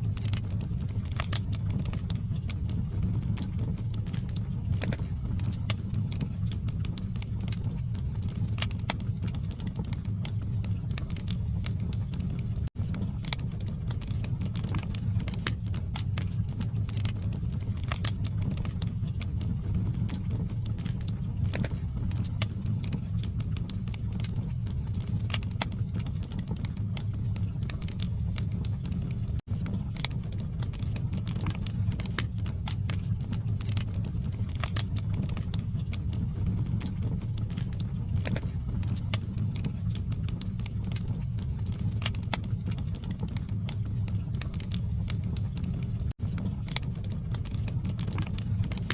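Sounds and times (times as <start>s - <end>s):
log fire crackling and popping: 0.0s - 48.9s.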